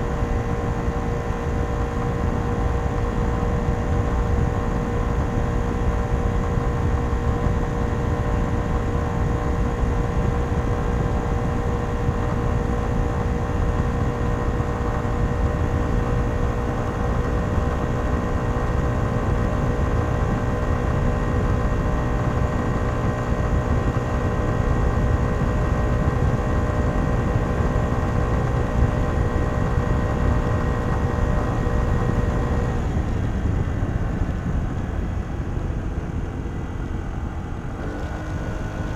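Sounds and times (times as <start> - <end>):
scooter engine cruising: 0.0 - 38.9
wind and road rumble: 0.0 - 38.9.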